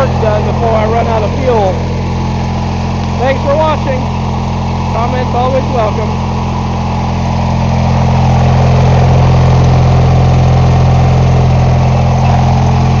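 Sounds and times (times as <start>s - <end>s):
lawn tractor engine running: 0.0s - 13.0s.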